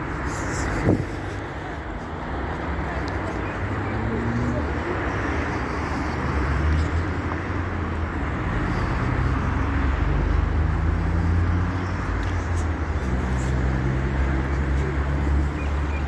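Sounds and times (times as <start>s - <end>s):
street noise with road traffic: 0.0s - 16.0s.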